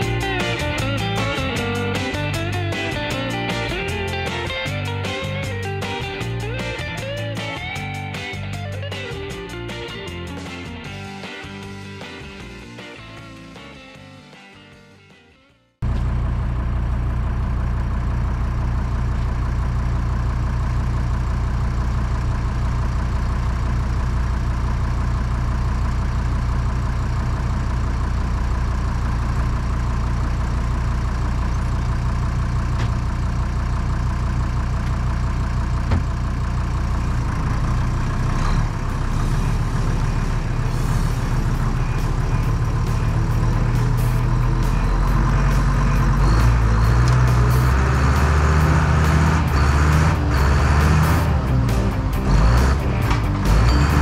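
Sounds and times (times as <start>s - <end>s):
tractor diesel engine running: 0.0s - 15.1s, 15.8s - 54.0s.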